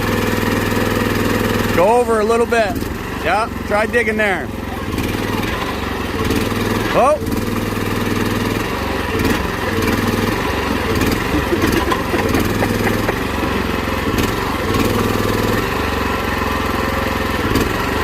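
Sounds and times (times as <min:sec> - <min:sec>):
small gasoline engine running: 0:00.0 - 0:18.0.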